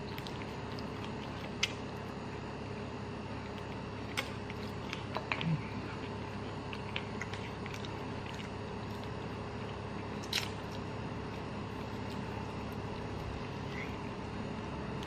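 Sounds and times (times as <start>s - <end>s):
person chewing chicken wing: 0.0s - 2.3s, 3.4s - 14.2s
steady background hum: 0.0s - 15.0s.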